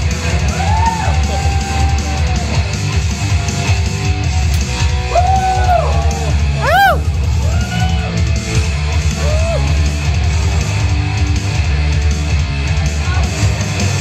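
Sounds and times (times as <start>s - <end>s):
rock music with heavy guitar: 0.0s - 14.0s.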